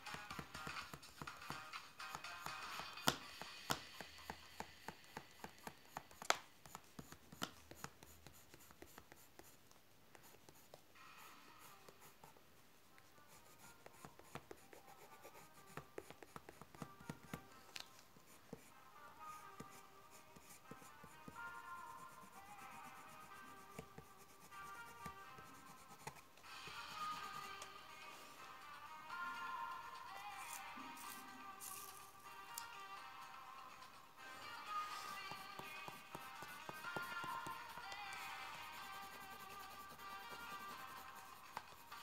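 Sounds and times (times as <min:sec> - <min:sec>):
pencil scratching on paper: 0:00.0 - 0:17.6, 0:18.2 - 0:27.7, 0:34.8 - 0:42.0
faint background music: 0:00.0 - 0:42.0.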